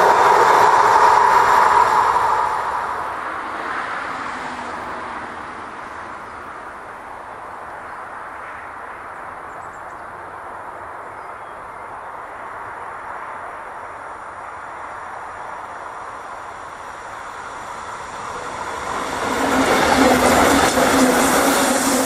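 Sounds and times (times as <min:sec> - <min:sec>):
passing train rumble: 0:00.0 - 0:09.5, 0:10.1 - 0:22.0
open-air background hiss: 0:00.0 - 0:22.0.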